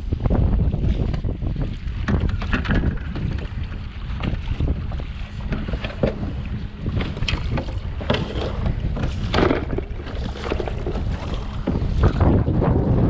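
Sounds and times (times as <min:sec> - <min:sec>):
water slapping kayak hull: 0:00.0 - 0:13.0
wind buffeting microphone: 0:00.0 - 0:13.0.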